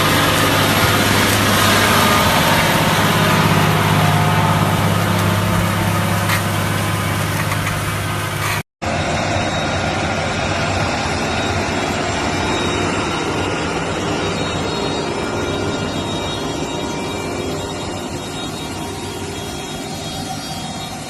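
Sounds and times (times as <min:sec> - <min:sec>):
diesel engine droning: 0:00.0 - 0:21.0
noisy machine running: 0:00.0 - 0:21.0.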